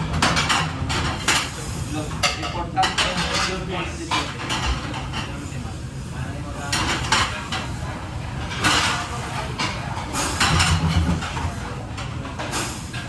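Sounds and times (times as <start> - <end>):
plates and utensils clattering: 0.0 - 5.6, 6.6 - 13.0.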